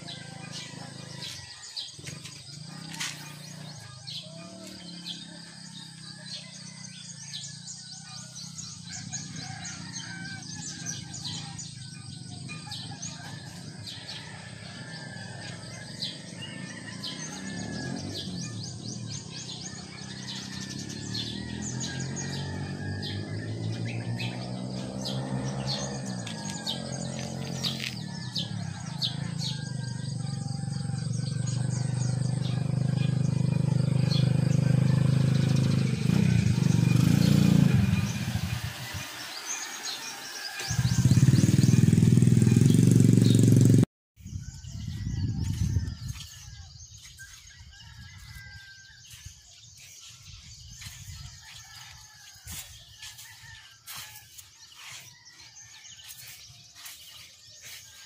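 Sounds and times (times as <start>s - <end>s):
motorcycle engine hum: 0.0s - 57.8s
small birds chirping: 0.0s - 58.0s.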